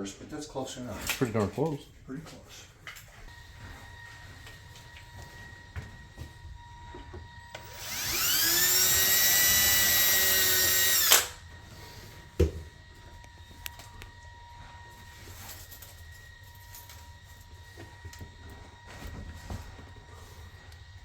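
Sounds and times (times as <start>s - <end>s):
power drill whining: 3.3s - 21.0s.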